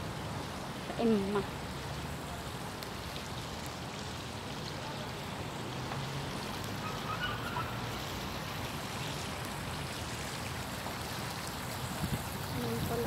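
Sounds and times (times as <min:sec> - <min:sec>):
fountain water running: 0:00.0 - 0:13.0.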